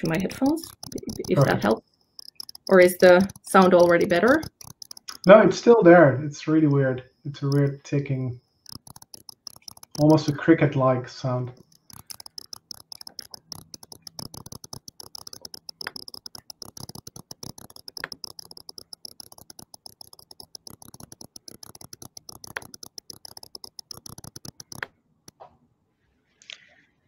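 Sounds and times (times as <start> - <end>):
rapid ticking interference: 0.0 - 5.8, 6.4 - 10.8, 11.5 - 24.9.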